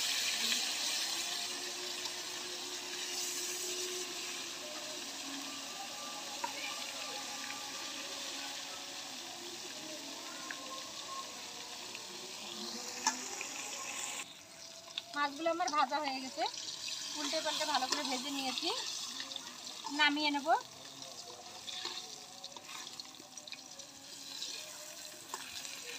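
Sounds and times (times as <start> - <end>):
fish sizzling in oil: 0.0 - 25.9.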